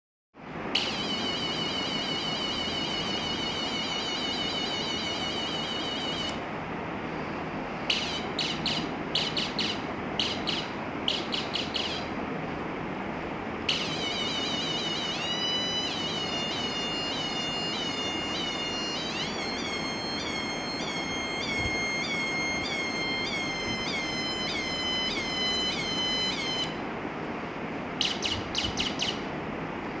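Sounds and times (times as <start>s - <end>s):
electronic bird-like chirps: 0.8s - 6.4s, 7.9s - 12.1s, 13.7s - 26.8s, 28.0s - 29.3s
pulsing electronic tone: 0.8s - 6.4s, 7.9s - 12.1s, 13.7s - 26.8s, 28.0s - 29.2s.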